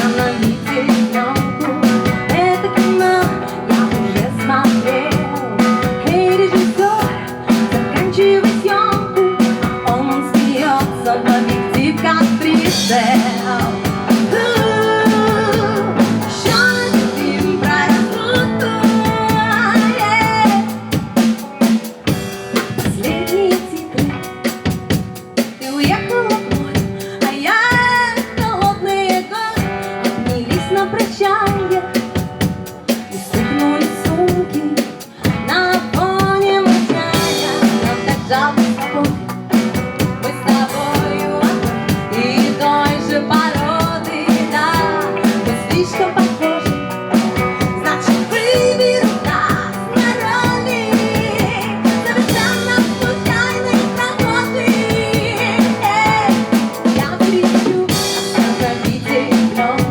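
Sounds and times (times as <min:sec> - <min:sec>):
drum kit beat: 0:00.0 - 0:59.9.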